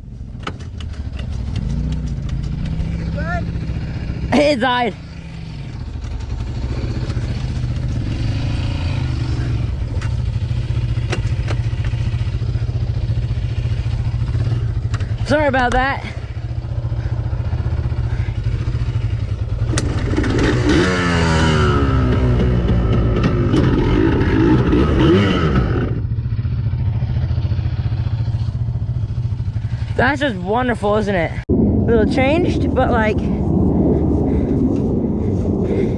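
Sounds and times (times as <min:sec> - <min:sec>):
off-road vehicle engine rumbling: 0:00.0 - 0:35.9.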